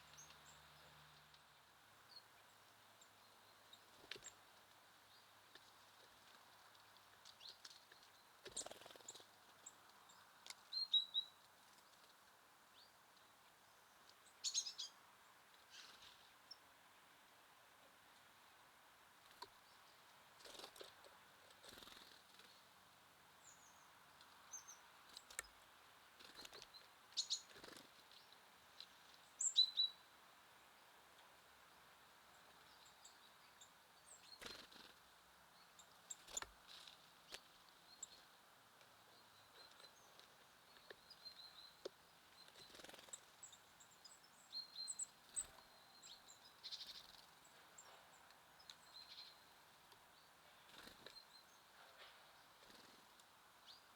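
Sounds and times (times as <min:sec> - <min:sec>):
faint outdoor hiss: 0:00.0 - 0:53.9
songbirds chirping: 0:00.0 - 0:53.9.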